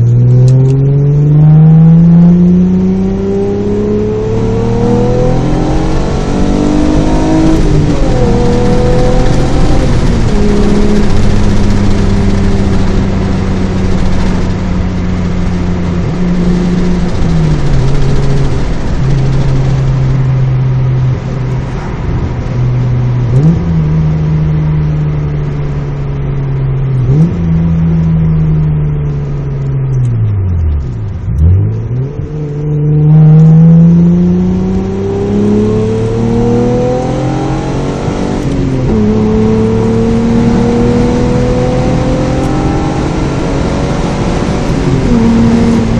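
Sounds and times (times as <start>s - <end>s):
car engine from inside cabin: 0.0s - 45.9s.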